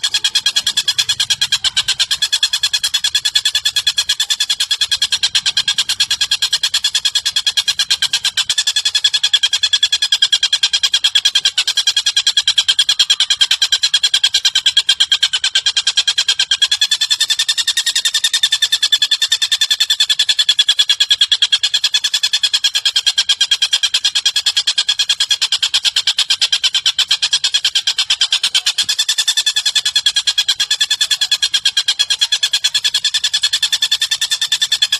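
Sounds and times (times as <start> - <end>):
rapid two-tone bird trill: 0.0 - 34.9.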